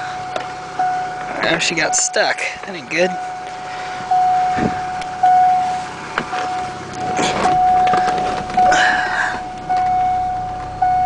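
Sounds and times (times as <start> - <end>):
car warning chime: 0.0 - 11.0.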